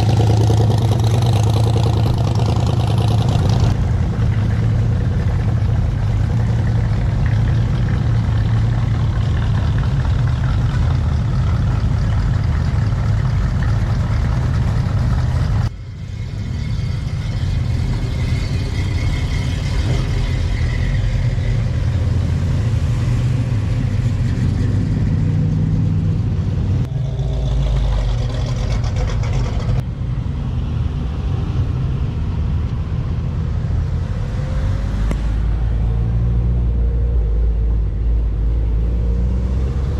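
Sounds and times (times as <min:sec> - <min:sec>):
car engines idling and revving: 0:00.0 - 0:39.9.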